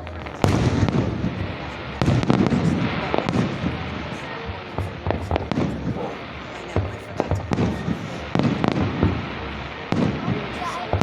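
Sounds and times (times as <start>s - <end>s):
low rumble: 0.0s - 10.5s
fireworks bursts and bangs: 0.0s - 11.0s.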